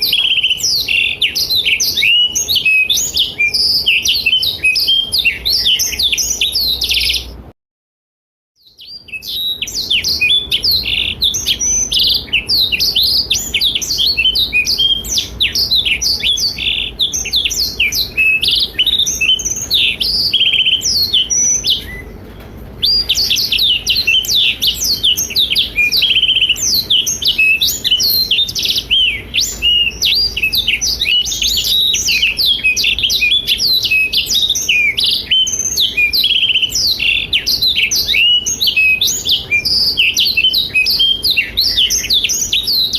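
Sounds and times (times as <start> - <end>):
canary singing twittering song: 0.0 - 7.5, 8.6 - 42.9.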